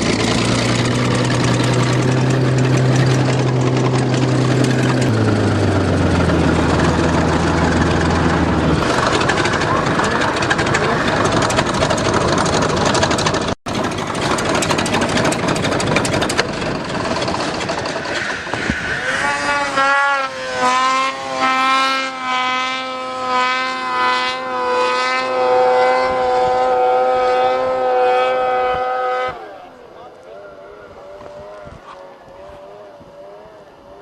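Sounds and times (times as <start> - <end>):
snowmobile engine high revs: 0.0 - 34.0.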